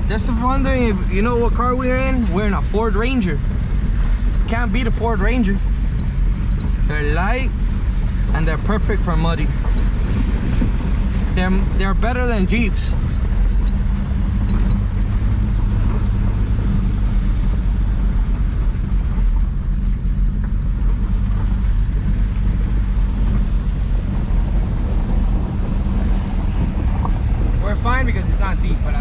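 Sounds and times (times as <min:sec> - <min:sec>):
pickup engine running: 0:00.0 - 0:29.0.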